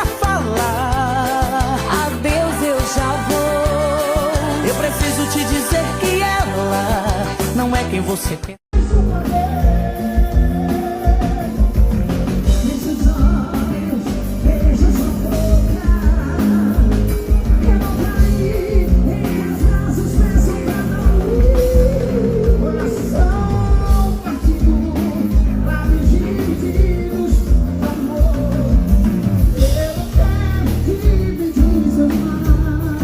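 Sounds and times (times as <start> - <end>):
band music with driving beat: 0.0 - 33.0.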